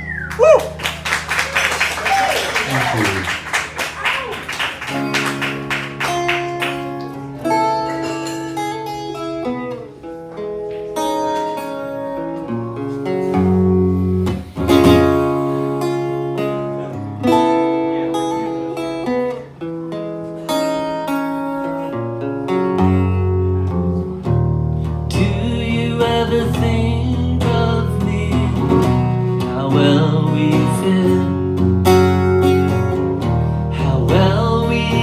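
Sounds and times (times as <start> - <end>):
acoustic guitar chords: 2.6 - 35.0.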